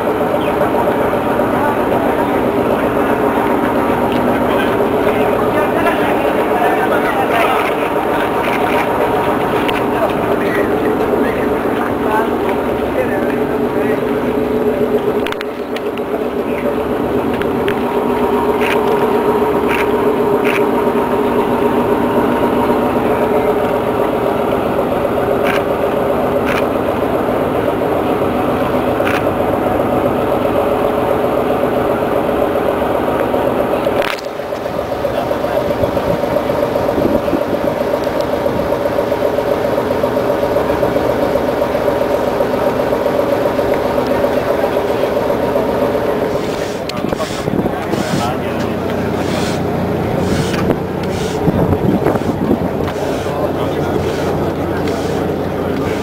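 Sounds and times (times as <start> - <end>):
engine drone: 0.0 - 56.0.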